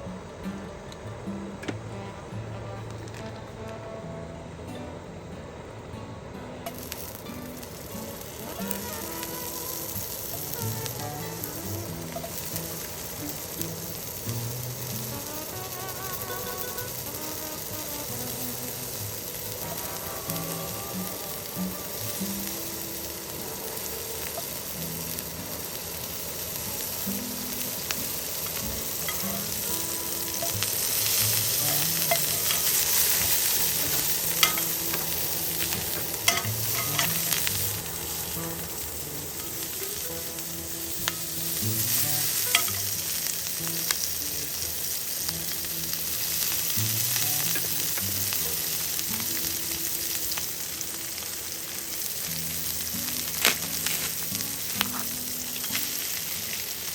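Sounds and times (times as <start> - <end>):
food sizzling in a pan: 1.2 - 4.9, 6.6 - 56.9.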